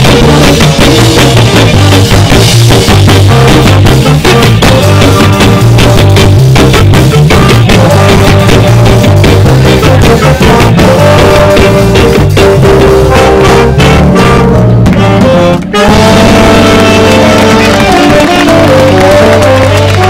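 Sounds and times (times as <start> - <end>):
live band playing loud: 0.0 - 20.0
trombone horn section: 0.0 - 20.0.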